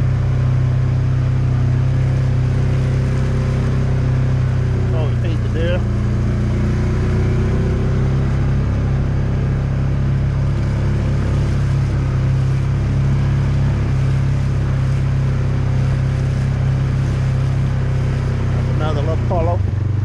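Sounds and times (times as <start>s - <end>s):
vehicle engine running steadily: 0.0s - 20.0s.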